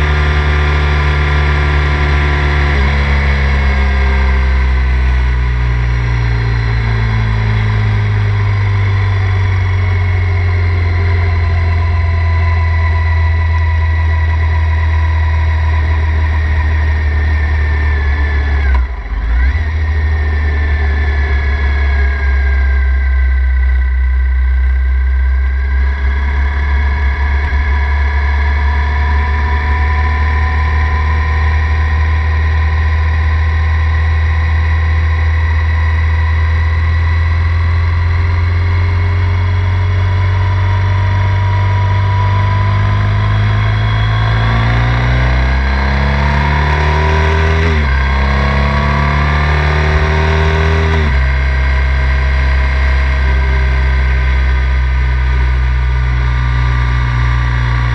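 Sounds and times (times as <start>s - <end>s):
motorcycle engine accelerating: 0.0s - 57.9s.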